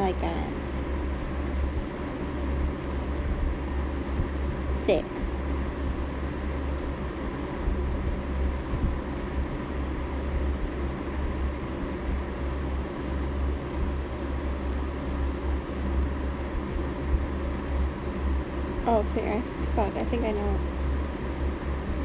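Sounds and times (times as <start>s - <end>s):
faint hum: 0.0s - 22.0s
steady low rumble: 0.0s - 22.0s.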